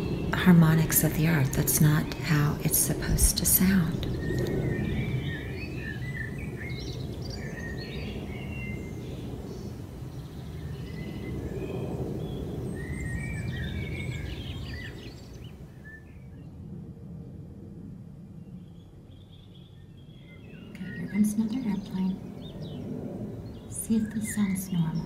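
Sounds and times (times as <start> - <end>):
small birds chirping: 0.0 - 16.5, 18.4 - 25.0
airplane passing overhead: 0.0 - 25.0.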